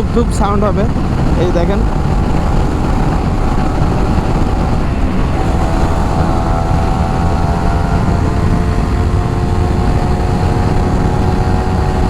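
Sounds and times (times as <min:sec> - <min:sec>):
motorcycle engine running hard: 0:00.0 - 0:12.0
wind rush on microphone: 0:00.0 - 0:12.0.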